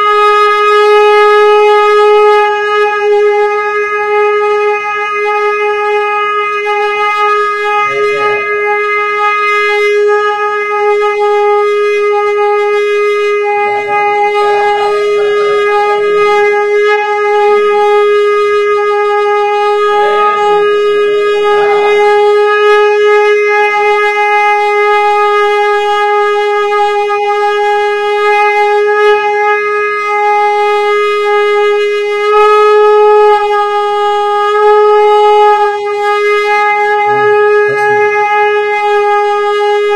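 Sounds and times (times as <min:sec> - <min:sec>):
conch shell blown: 0:00.0 - 0:39.9.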